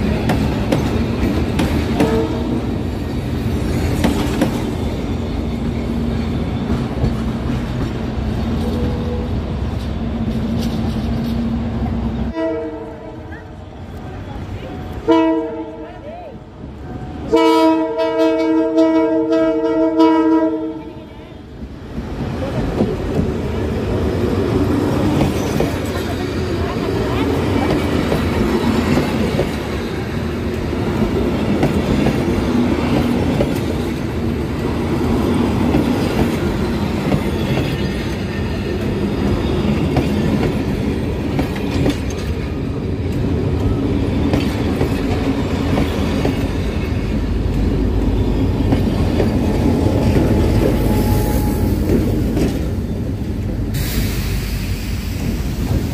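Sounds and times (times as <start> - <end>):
train wheels clattering on rails: 0.0 - 12.4, 21.6 - 55.9.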